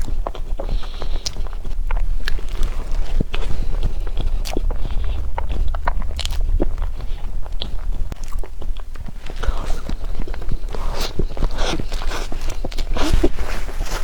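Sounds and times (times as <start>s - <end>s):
chewing and biting: 0.0s - 14.0s
low steady hum: 0.0s - 14.0s.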